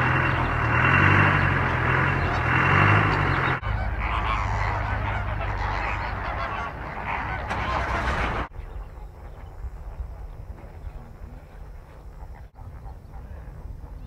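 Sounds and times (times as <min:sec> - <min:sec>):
flamingos honking: 0:00.0 - 0:14.0
low rumble: 0:00.0 - 0:14.0.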